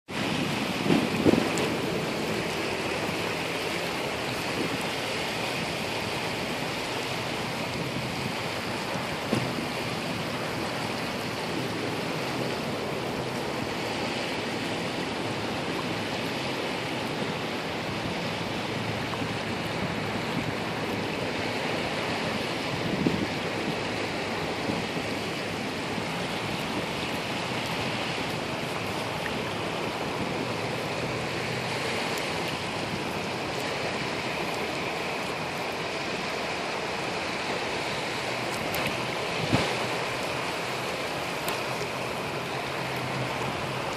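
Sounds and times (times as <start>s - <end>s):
sea surf washing ashore: 0.1s - 43.9s.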